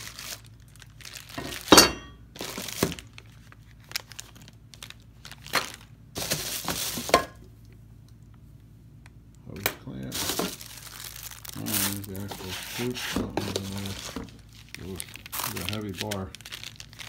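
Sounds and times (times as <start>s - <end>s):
plastic bags crinkling: 0.0s - 7.2s, 10.0s - 17.0s.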